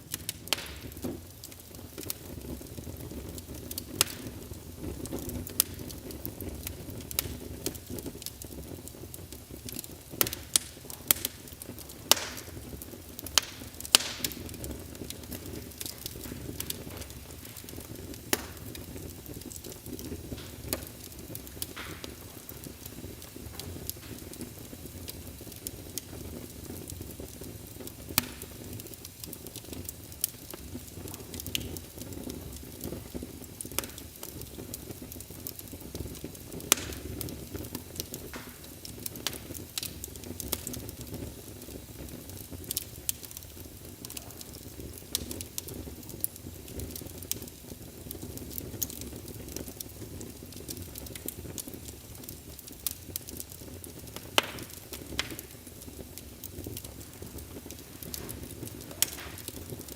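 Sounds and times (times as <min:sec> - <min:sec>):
fire crackles and pops: 0:00.0 - 0:59.9
low rumble of flames: 0:00.0 - 0:59.9.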